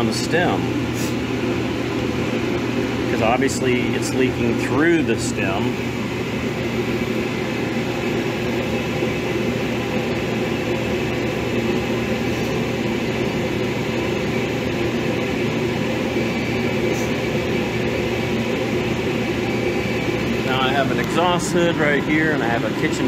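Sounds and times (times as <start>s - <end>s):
kitchen exhaust fan drone: 0.0s - 23.0s.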